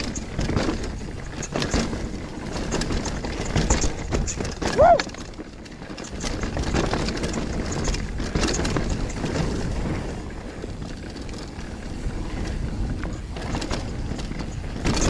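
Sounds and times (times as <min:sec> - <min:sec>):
bike knocks and rattles: 0:00.0 - 0:15.0
tyre and wind rumble: 0:00.0 - 0:15.0.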